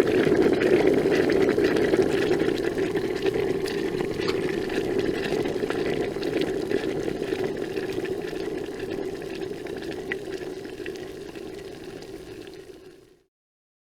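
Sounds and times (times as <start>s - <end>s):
water boiling with popping bubbles: 0.0s - 13.3s.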